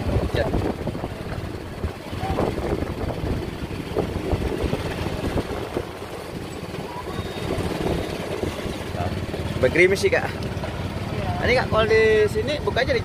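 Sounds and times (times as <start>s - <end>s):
motorbike engines: 0.0s - 13.0s
road traffic rumble: 0.0s - 13.0s.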